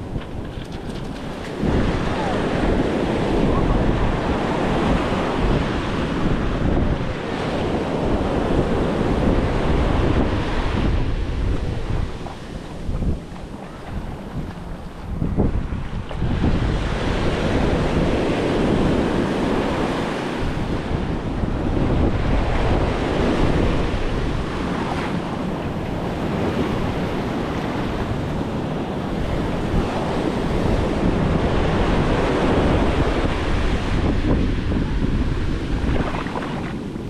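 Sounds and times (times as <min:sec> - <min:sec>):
waves breaking on sand: 0:00.0 - 0:37.0
wind rumbling on microphone: 0:00.0 - 0:37.0.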